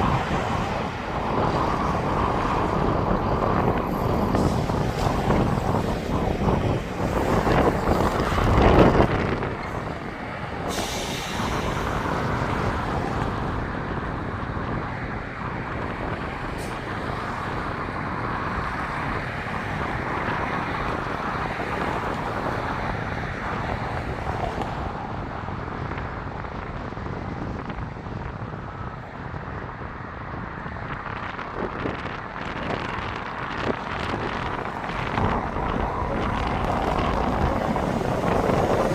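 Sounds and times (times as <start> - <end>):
high wind: 0.0 - 38.9
passenger train rumbling: 0.0 - 38.9.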